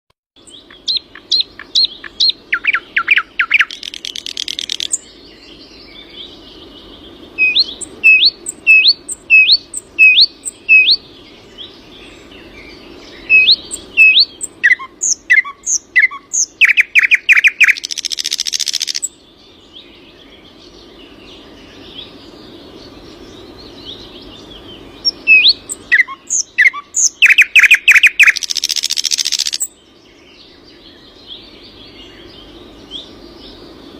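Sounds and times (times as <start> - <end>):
songbird trilling: 0.4 - 33.6.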